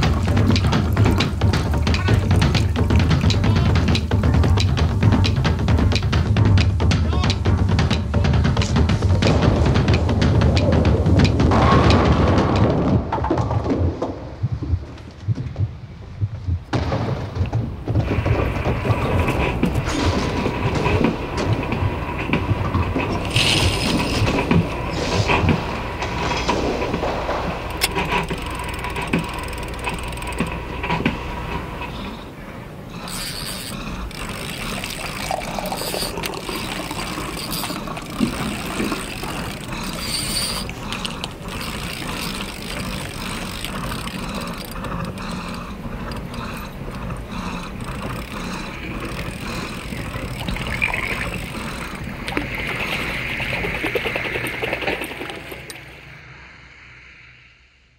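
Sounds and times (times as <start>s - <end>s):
mechanical clattering: 0.0s - 15.2s, 16.6s - 56.0s.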